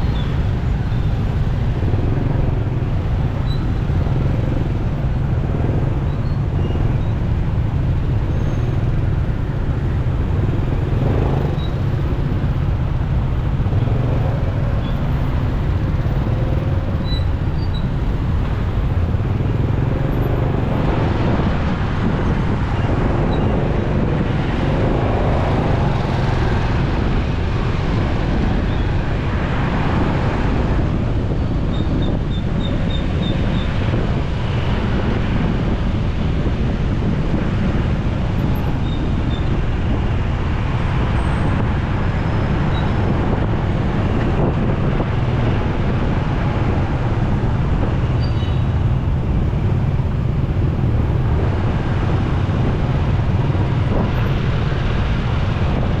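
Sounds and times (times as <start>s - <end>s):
motorcycle engine rumble: 0.0s - 56.0s
surrounding traffic: 0.0s - 56.0s
wind noise: 0.0s - 56.0s.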